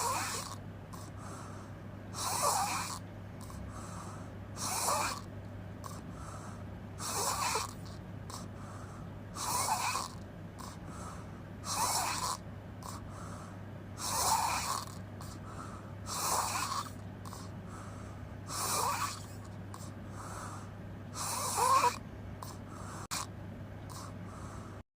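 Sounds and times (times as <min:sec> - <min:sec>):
person snoring: 0:00.0 - 0:23.3, 0:23.9 - 0:24.8.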